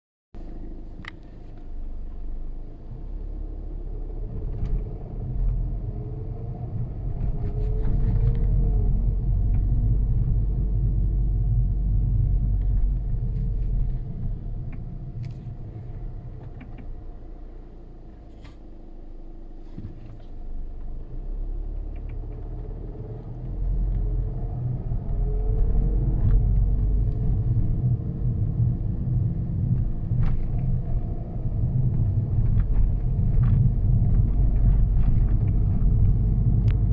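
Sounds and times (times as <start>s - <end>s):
car engine accelerating: 0.4s - 36.9s.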